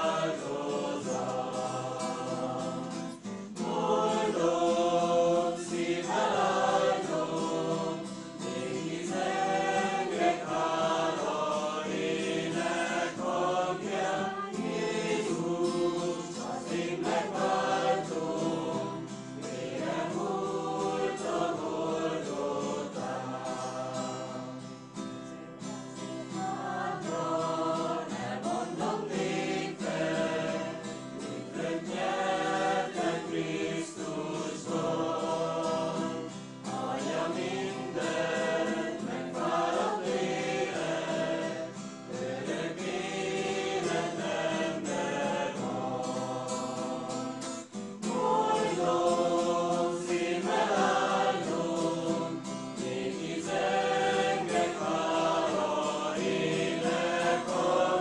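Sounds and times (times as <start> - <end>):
choir singing a slow hymn: 0.0 - 58.0.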